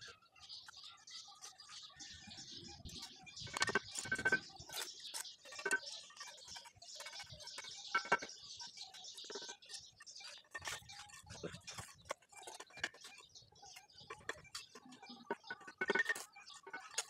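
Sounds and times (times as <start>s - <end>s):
trowel scraping mortar: 1.5s - 17.0s
trowel knocking bricks: 2.9s - 17.0s.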